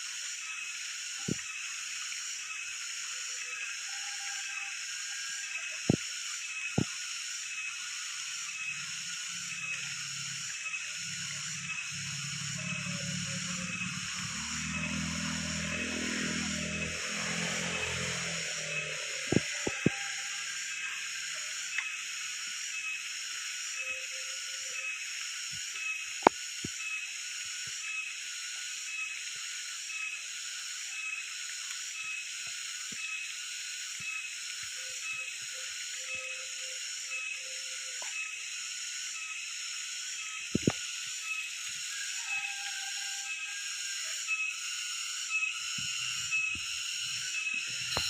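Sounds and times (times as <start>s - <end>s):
cicadas chorus pulsing: 0.0s - 48.0s.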